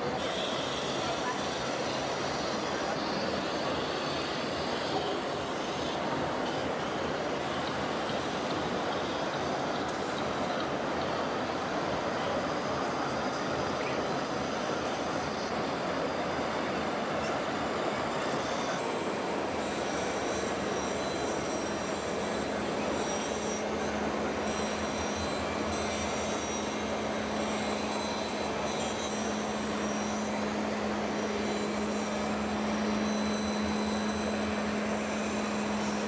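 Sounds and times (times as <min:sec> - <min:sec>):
toy electric motor running: 0:00.2 - 0:09.2, 0:13.7 - 0:36.0.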